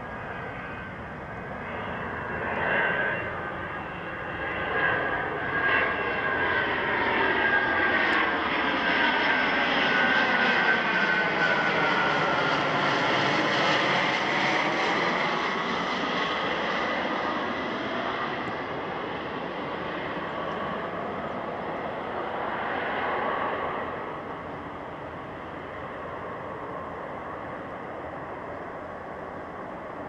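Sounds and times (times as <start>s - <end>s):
jet engine noise: 0.0s - 30.0s.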